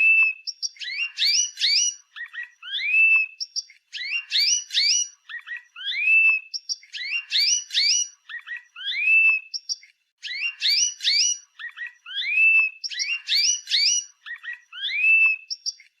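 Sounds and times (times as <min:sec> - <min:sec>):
canary singing: 0:00.0 - 0:15.9.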